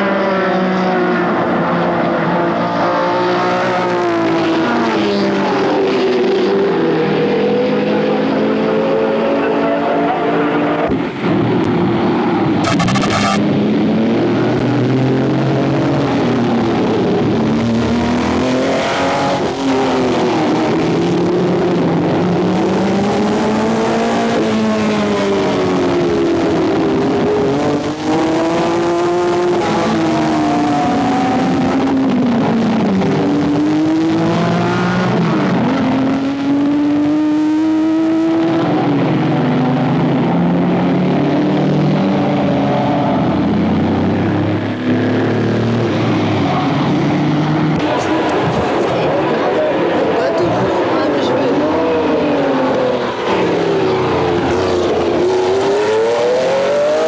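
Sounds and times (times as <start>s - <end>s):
race cars passing at speed: 0.0s - 57.0s.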